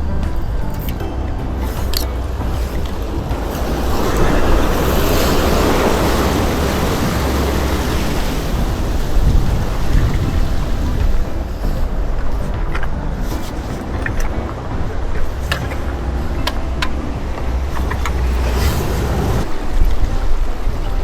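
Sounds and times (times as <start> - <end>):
wind rumbling on microphone: 0.0 - 21.0
waves breaking on rocks: 1.6 - 21.0.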